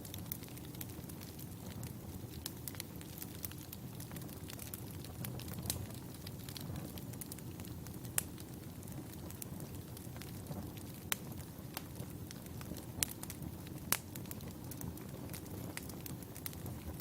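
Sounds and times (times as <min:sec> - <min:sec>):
campfire crackling: 0:00.0 - 0:17.0
sharp pops of burning logs: 0:00.0 - 0:17.0.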